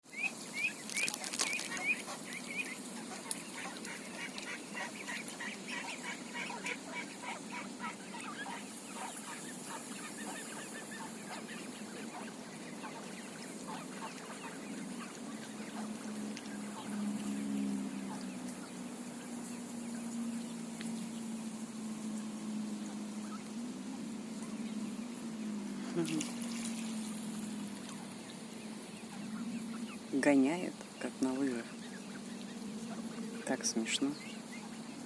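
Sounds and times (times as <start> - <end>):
ducks calling: 0.1 - 21.8, 22.7 - 35.0.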